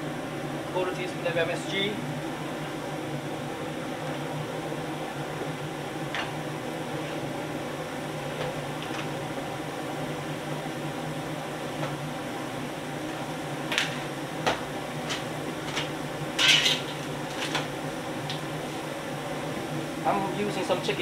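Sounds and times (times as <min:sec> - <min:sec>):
gas burners and extraction hum: 0:00.0 - 0:21.0.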